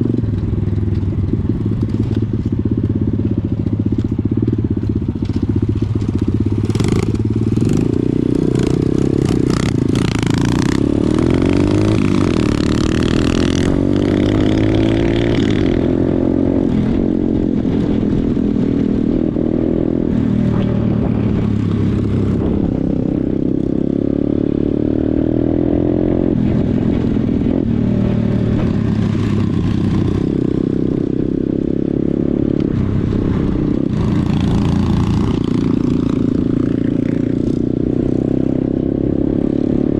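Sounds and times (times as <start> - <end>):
pit bike engine revving: 5.3 - 39.9.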